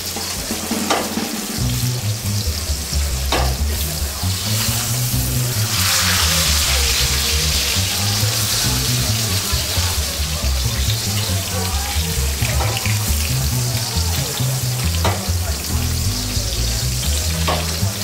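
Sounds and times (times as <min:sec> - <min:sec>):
background music with bass line: 0:00.0 - 0:18.0
steak sizzling in hot oil: 0:00.0 - 0:18.0.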